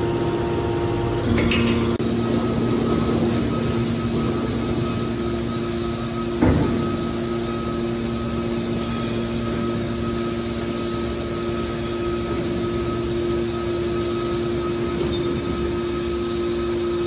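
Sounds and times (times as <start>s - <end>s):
hydraulic press motor humming: 0.0s - 17.0s.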